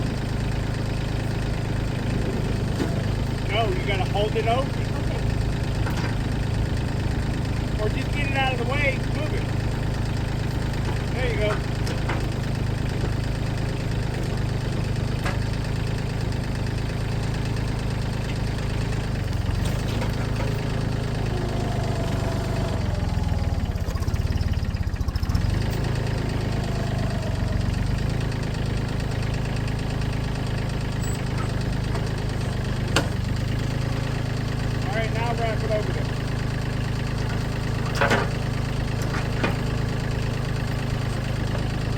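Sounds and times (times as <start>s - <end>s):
gas engine idling: 0.0s - 41.9s.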